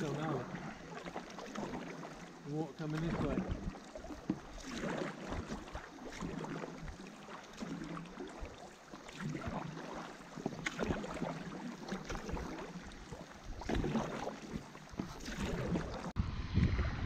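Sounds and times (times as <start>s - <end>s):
paddle strokes splashing in water: 0.0s - 17.0s.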